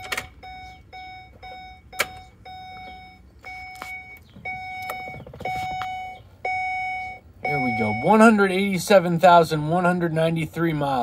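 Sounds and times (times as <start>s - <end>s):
dashboard warning chime beeping: 0.0s - 9.2s.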